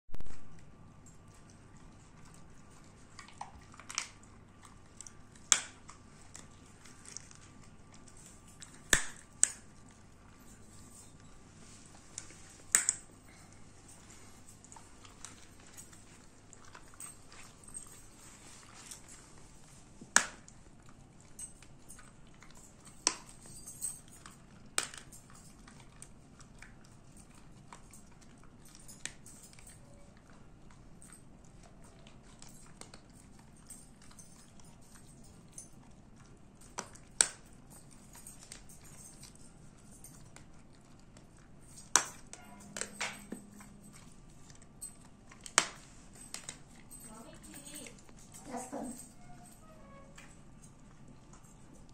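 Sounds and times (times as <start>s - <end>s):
dog chewing bone crunches: 0.2s - 49.0s.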